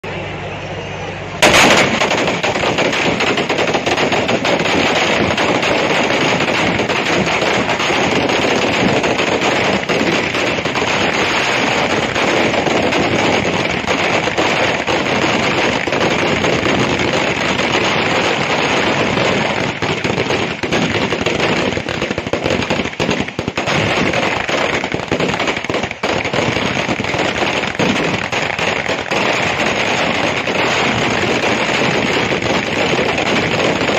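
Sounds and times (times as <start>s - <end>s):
string of firecrackers banging: 1.4s - 33.9s.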